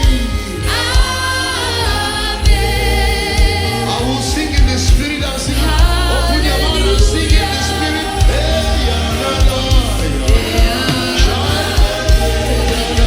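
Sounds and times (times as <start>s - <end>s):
bass: 0.0s - 13.0s
gospel choir singing: 0.0s - 13.0s
steady drum beat: 0.0s - 13.0s.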